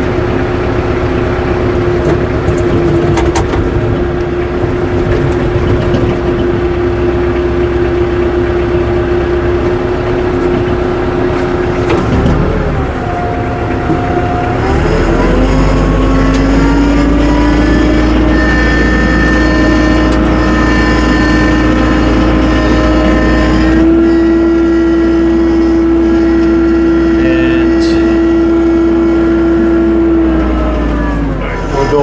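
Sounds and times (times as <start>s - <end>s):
tractor engine whining: 0.0s - 32.0s.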